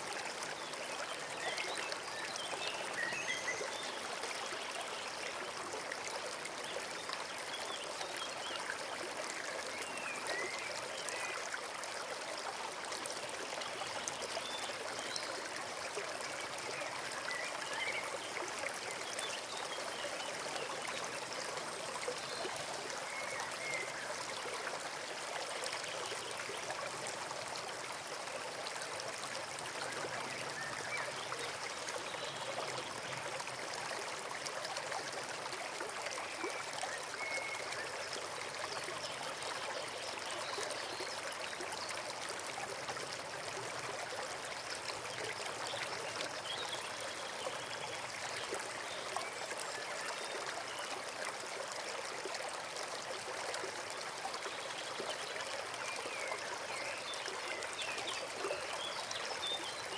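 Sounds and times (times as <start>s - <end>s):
forest stream babbling: 0.0s - 59.9s.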